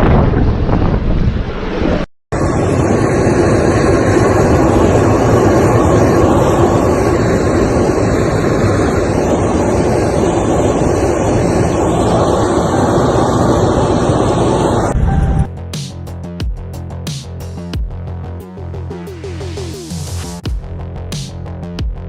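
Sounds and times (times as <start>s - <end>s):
loud vehicle noise: 0.3s - 21.7s.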